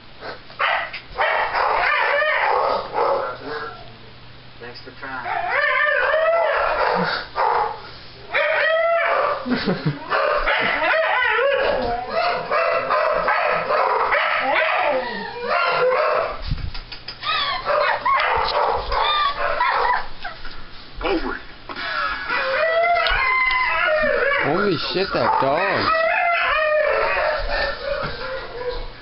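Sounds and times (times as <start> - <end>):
dogs barking and howling: 0.6 - 4.0, 5.2 - 16.4, 17.2 - 20.4, 22.0 - 29.0.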